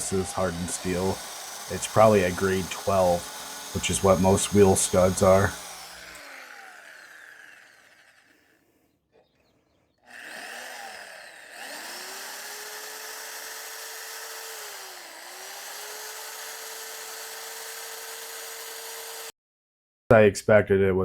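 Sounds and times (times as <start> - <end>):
electric drill whining: 0.0 - 8.6, 10.0 - 19.3.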